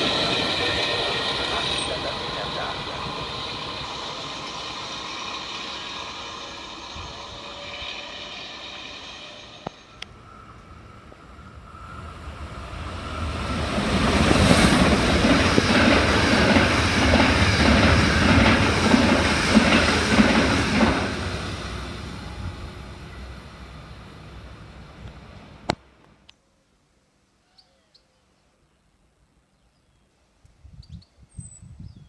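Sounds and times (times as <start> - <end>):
train rolling noise: 0.0 - 26.2.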